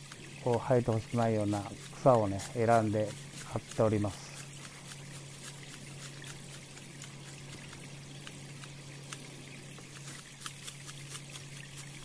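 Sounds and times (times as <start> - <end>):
low steady hum: 0.0 - 12.0
stream trickling: 0.0 - 12.0.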